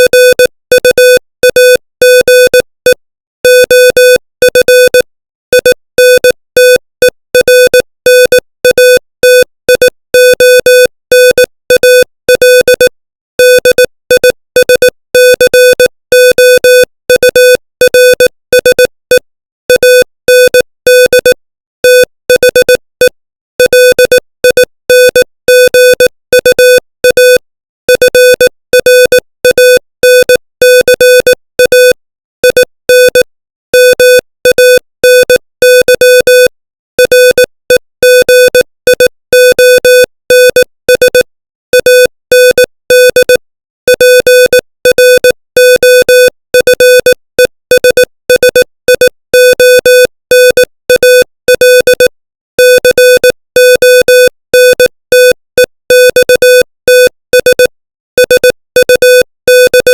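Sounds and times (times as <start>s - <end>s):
morse code tone: 0.0s - 6.8s, 7.4s - 59.9s.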